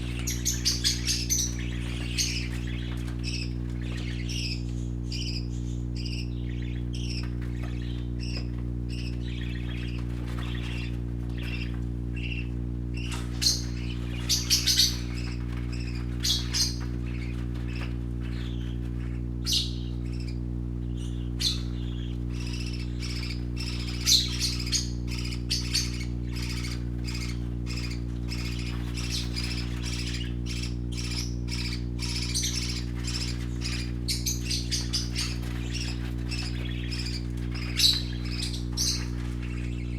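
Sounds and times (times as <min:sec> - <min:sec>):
parakeet squawks: 0:00.0 - 0:39.9
parakeets chirping and chattering: 0:00.0 - 0:39.9
steady low hum: 0:00.0 - 0:39.9.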